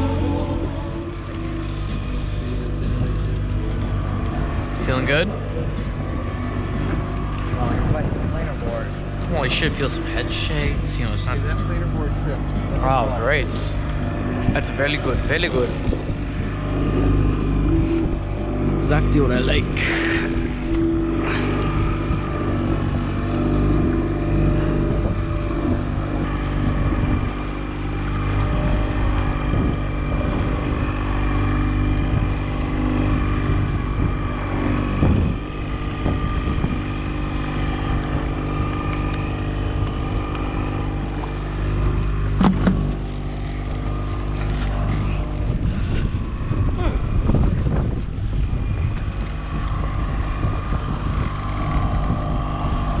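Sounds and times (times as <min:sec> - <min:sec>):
boat motor running: 0:00.0 - 0:53.0.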